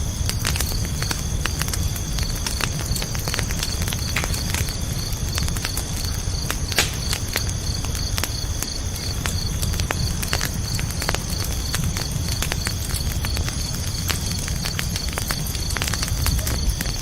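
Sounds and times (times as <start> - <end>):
crickets chirping: 0.0 - 17.0
wood fire crackling and popping: 0.0 - 17.0.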